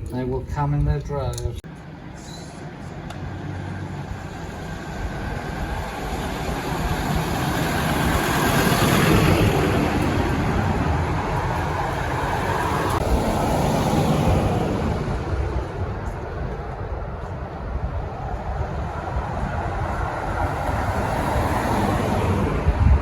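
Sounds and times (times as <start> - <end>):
car engines passing: 1.7 - 23.0.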